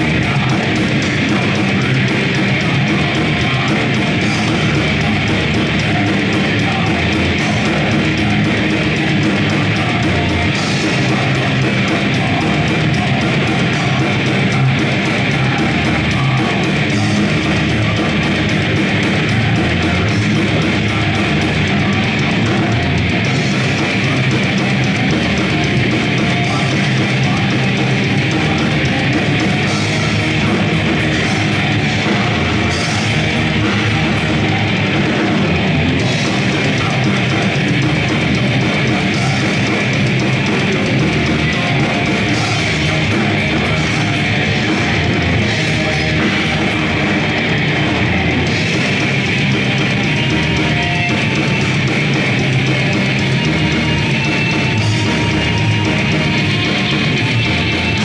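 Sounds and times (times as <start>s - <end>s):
bass guitar: 0.0s - 58.0s
distorted electric guitars: 0.0s - 58.0s
drum kit: 0.0s - 58.0s
harsh screamed vocals: 0.0s - 58.0s.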